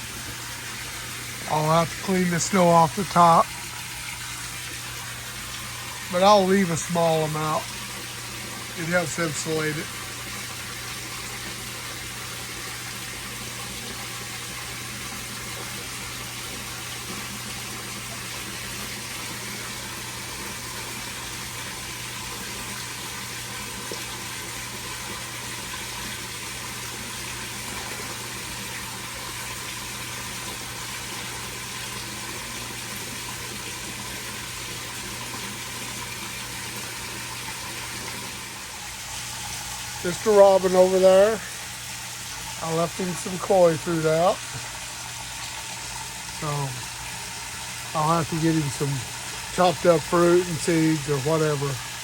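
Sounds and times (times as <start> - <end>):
water running and splashing: 0.0 - 52.0.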